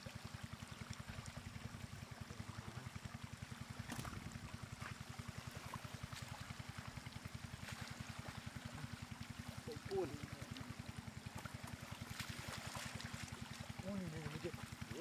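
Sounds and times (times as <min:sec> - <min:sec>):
floodwater rushing and splashing: 0:00.0 - 0:15.0
pulsing low hum: 0:00.1 - 0:15.0.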